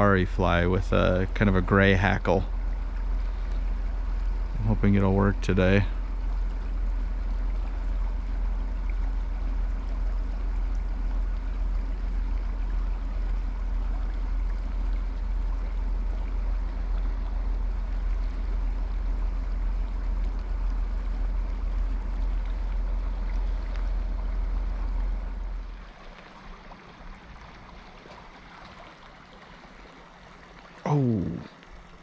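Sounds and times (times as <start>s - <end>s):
low rumble: 0.0s - 25.8s
river water flowing: 0.0s - 32.0s.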